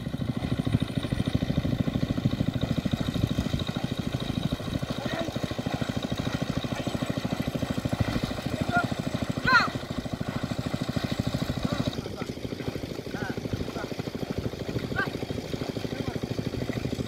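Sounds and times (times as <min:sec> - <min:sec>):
small engine chugging: 0:00.0 - 0:17.0.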